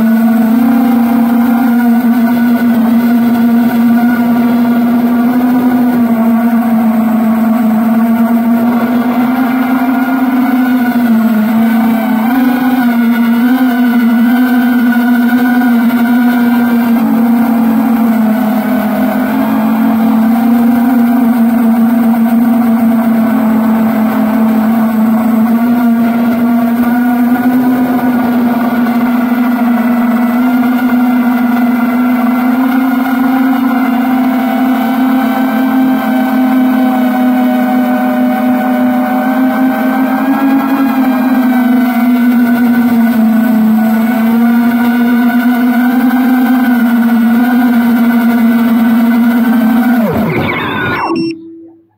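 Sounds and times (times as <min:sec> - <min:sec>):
drone motors whining: 0:00.0 - 0:51.9.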